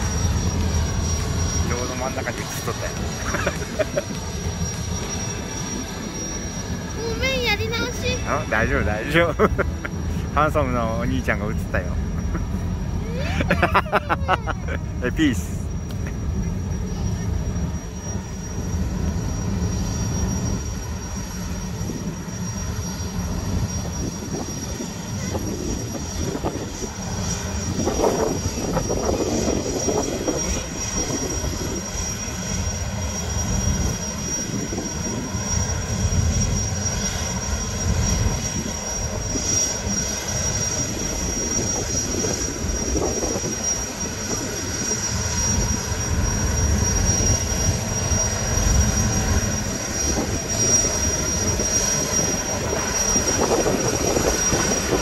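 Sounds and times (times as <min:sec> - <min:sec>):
turbine engines high whine: 0:00.0 - 0:55.0.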